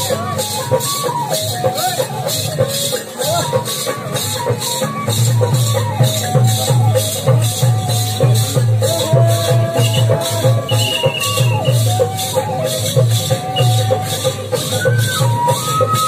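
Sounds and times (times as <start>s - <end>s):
drum beat: 0.0s - 16.0s
rhythmic rattling jangle: 0.0s - 16.0s.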